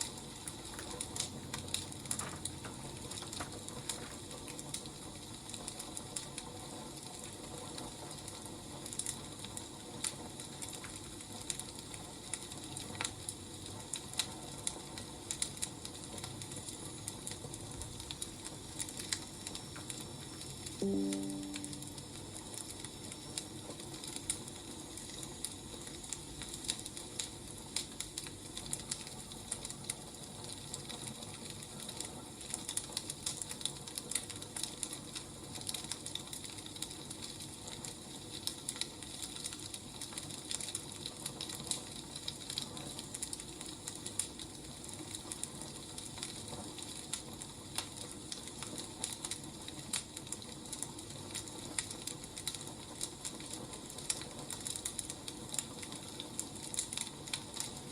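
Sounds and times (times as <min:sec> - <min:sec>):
faint steady hiss: 0:00.0 - 0:57.9
fire crackling and popping: 0:00.0 - 0:57.9.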